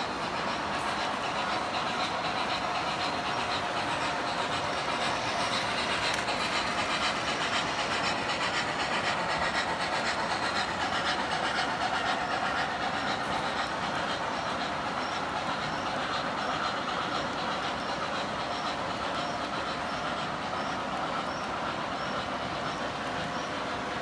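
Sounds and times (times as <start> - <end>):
model train wheels clattering: 0.0 - 24.0.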